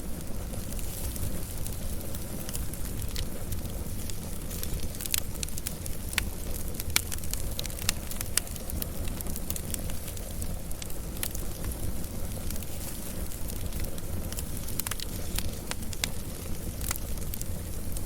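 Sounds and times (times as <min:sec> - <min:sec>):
fire crackling and popping: 0:00.0 - 0:18.0
low rush of flames: 0:00.0 - 0:18.0.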